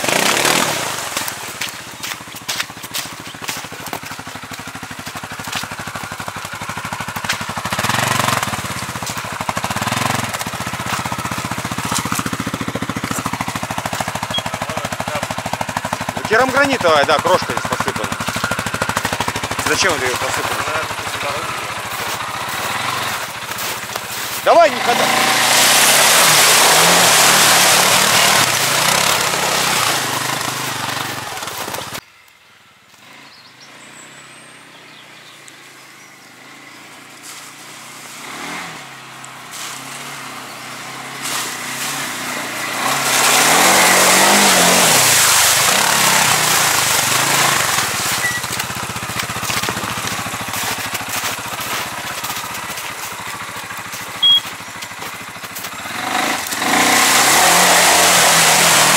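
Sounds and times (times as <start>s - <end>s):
vehicle engine revving: 0.0s - 32.0s, 32.9s - 58.9s.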